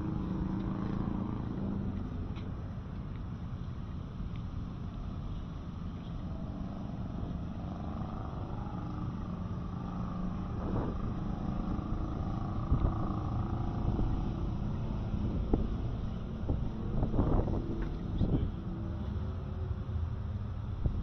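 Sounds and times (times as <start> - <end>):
passing vehicles rumble: 0.0 - 21.0.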